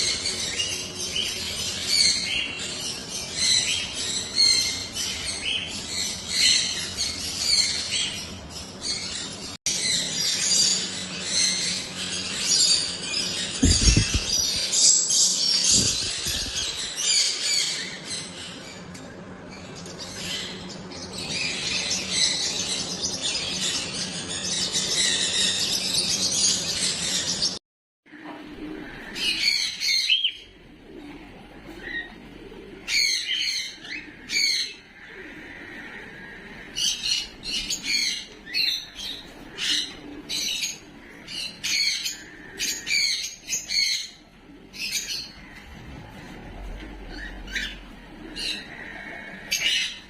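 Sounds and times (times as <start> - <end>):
steady low hum: 0.0 - 27.3, 28.1 - 50.0
parrots chirping and squawking: 0.0 - 27.5, 28.8 - 30.8, 31.5 - 50.0.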